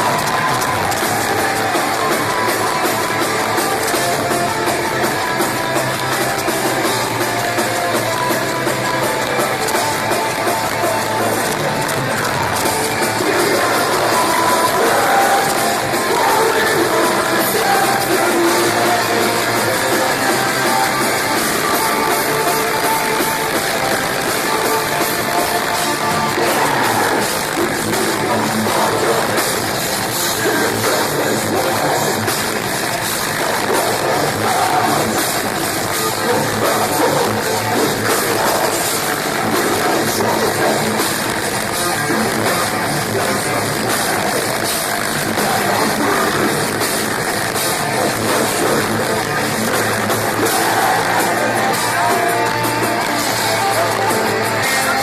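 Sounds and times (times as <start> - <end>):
distorted electric guitars: 0.0 - 55.0
pounding drums: 0.0 - 55.0
vocals: 0.0 - 55.0.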